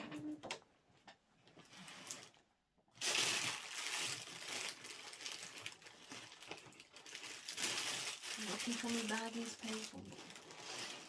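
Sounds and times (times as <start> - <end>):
rummaging through plastic bags: 1.4 - 11.0.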